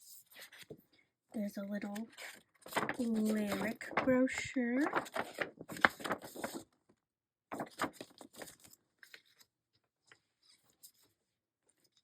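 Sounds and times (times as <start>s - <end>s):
paper rustling and crinkling: 1.6s - 6.9s, 7.5s - 12.0s.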